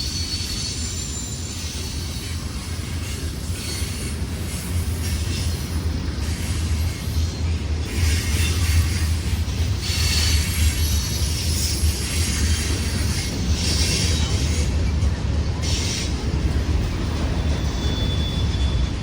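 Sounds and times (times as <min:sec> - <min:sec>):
train rumbling past: 0:00.0 - 0:19.0
wheels squealing on rails: 0:00.0 - 0:19.0.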